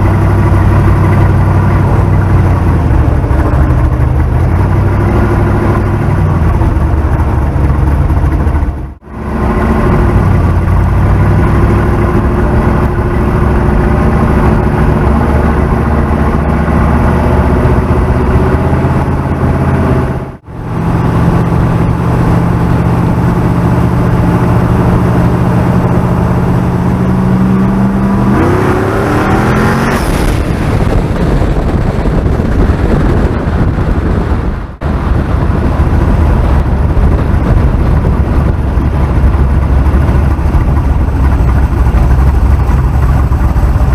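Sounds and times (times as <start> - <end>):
car engine running and revving: 0.0 - 43.9.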